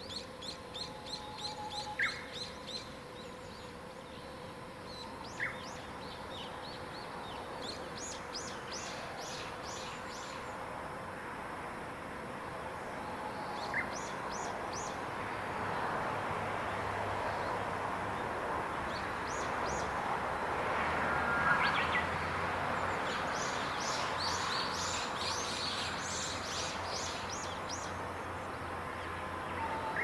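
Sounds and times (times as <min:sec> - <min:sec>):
songbirds chirping: 0:00.0 - 0:10.8, 0:12.8 - 0:20.0, 0:21.5 - 0:30.0
background hiss: 0:00.0 - 0:30.0.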